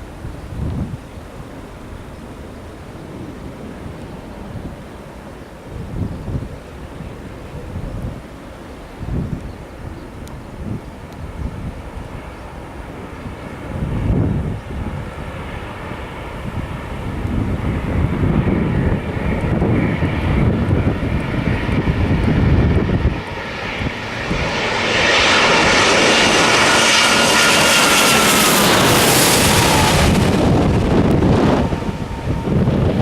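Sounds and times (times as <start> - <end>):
jet airliner passing overhead: 0.0 - 33.0
wind rumble on microphone: 0.0 - 33.0.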